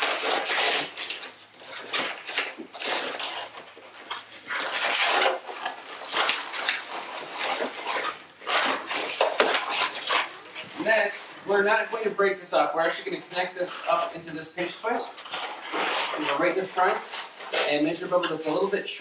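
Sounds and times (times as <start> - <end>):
balloon squeaking: 0.0 - 12.1, 13.3 - 18.9.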